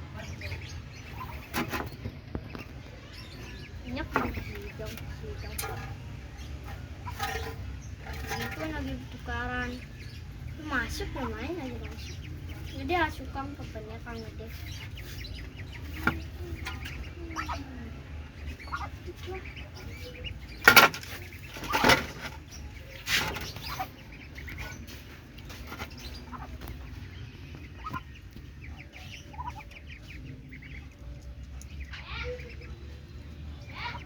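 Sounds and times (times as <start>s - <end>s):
poultry peeping: 0.0s - 34.0s.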